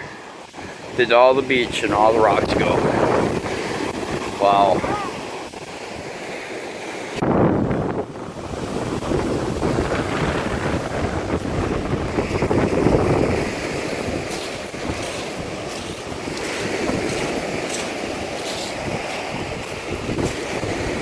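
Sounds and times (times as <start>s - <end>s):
wind buffeting microphone: 0.0s - 6.3s, 7.1s - 21.0s
heavy surf on rocky shore: 0.0s - 21.0s.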